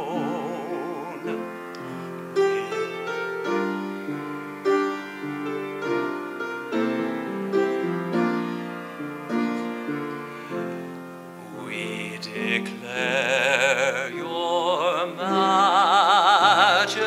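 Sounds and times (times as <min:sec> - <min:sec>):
piano keyboard chords: 0:00.0 - 0:17.0.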